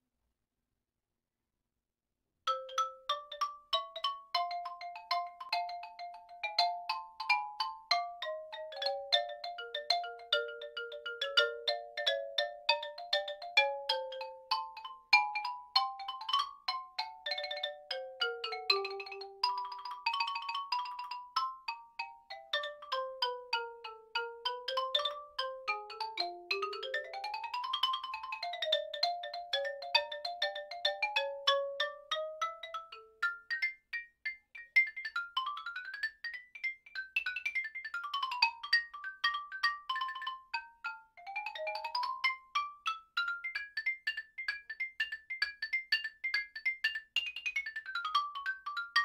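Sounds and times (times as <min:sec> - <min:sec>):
ragtime xylophone melody: 0:02.5 - 0:49.0.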